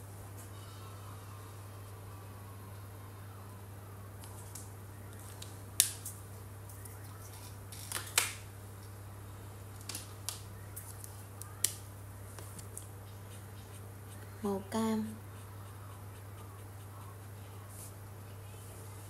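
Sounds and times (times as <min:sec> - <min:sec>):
steady low hum: 0:00.0 - 0:07.8, 0:08.4 - 0:19.0.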